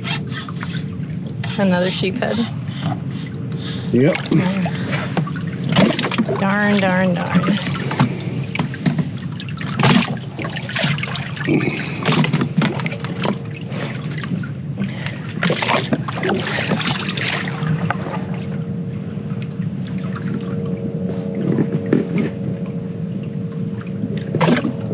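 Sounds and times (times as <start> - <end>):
steady low hum: 0.0 - 24.9
water lapping and trickling: 0.0 - 24.9.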